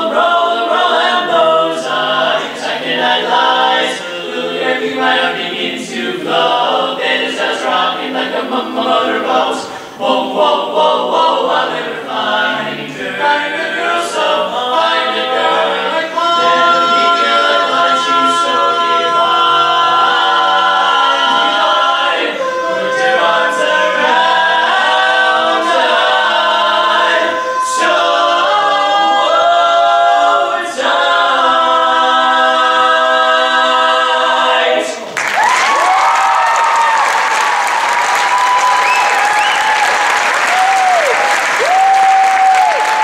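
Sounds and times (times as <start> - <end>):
male quartet singing a cappella: 0.0 - 35.1.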